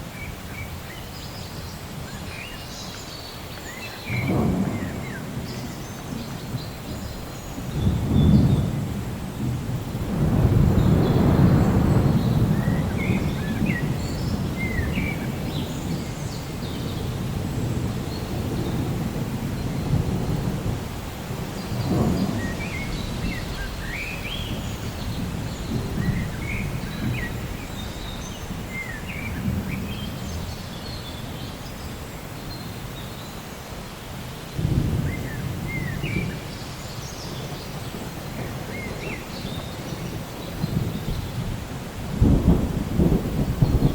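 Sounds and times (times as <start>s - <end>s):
steady rain: 0.0s - 43.9s
rolling thunder: 4.1s - 31.6s, 34.5s - 43.9s.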